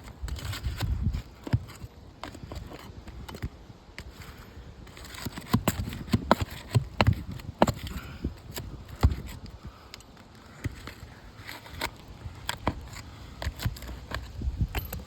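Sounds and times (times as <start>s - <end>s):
hand tools clicking and scraping: 0.0s - 15.0s.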